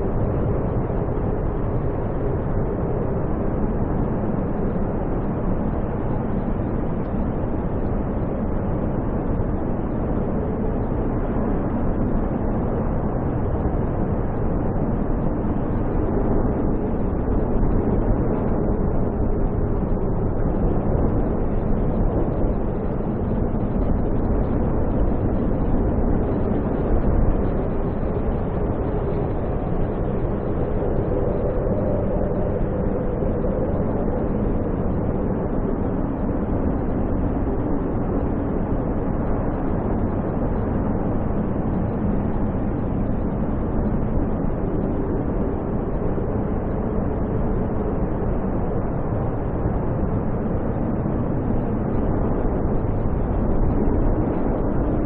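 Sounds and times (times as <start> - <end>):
wind roaring: 0.0 - 55.0.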